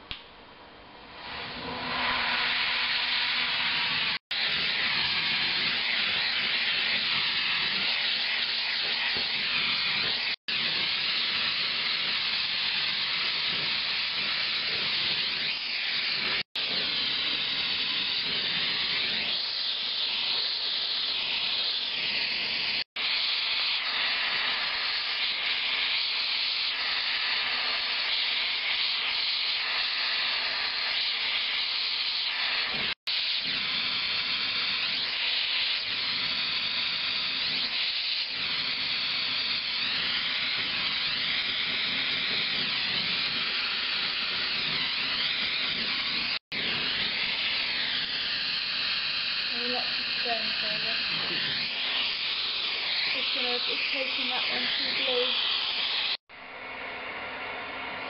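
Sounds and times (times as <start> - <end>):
gas flame hissing: 1.1 - 56.3.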